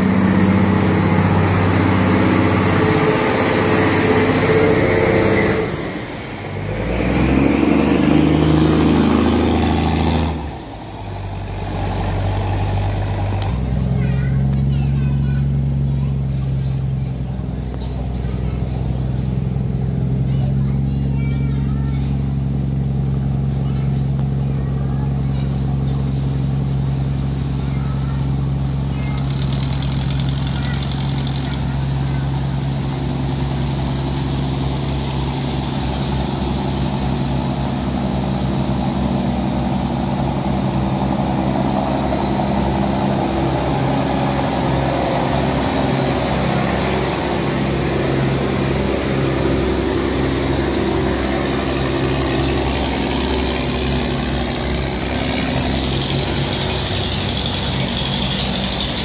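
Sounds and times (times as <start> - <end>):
boat engines droning: 0.0 - 59.0
water churning along hulls: 0.0 - 59.0.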